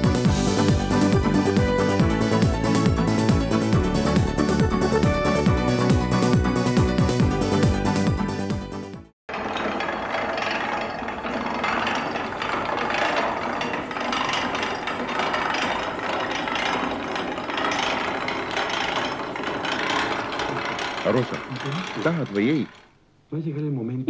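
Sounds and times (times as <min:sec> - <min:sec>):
mangle gears and rollers clattering: 0:00.0 - 0:08.5, 0:09.3 - 0:23.0.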